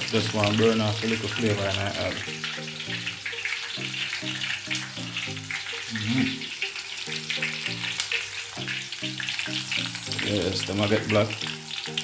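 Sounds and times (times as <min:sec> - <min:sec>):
background music: 0:00.0 - 0:12.0
vegetables sizzling in oil: 0:00.0 - 0:12.0.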